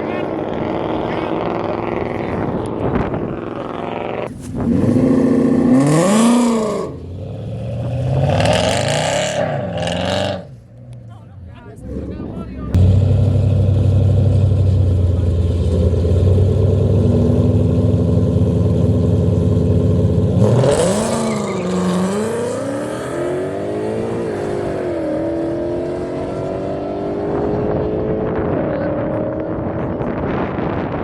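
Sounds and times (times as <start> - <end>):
car engine revving: 0.0 - 30.8.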